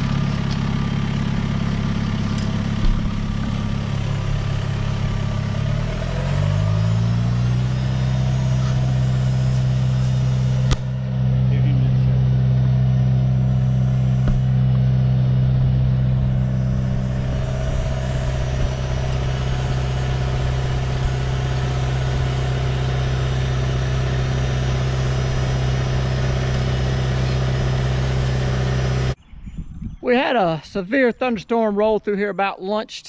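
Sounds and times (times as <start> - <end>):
tractor engine running: 0.0 - 29.2.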